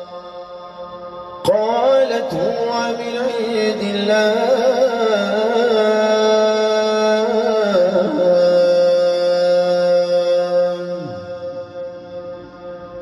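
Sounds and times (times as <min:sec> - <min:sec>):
person chanting recitation: 0:00.0 - 0:13.0.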